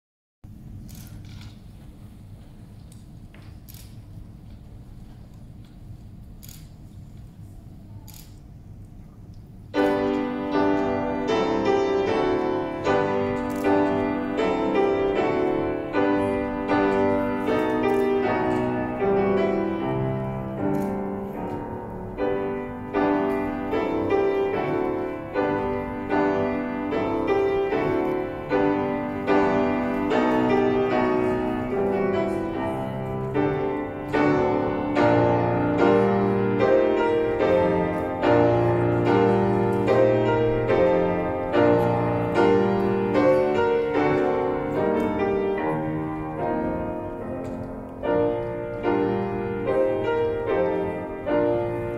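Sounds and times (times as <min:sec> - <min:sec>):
solo grand piano playing: 0:09.5 - 0:51.9.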